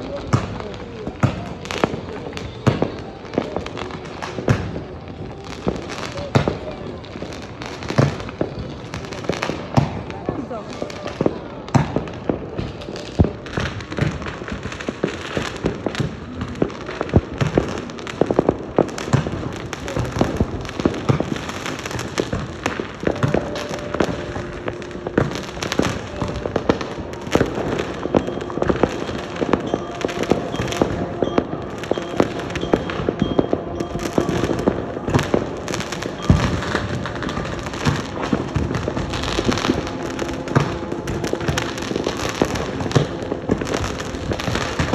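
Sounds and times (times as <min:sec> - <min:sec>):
fireworks bangs and crackles: 0:00.0 - 0:44.9
loud firework bangs: 0:00.0 - 0:44.9.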